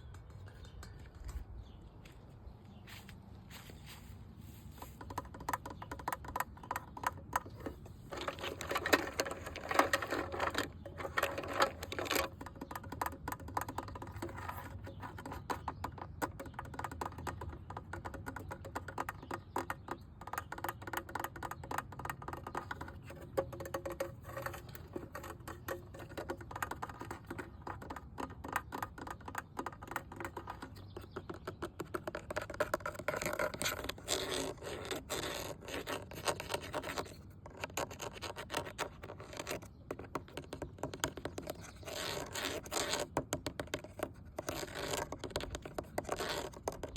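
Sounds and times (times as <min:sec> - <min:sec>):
tapping and scratching on hard object: 0:04.6 - 0:46.9.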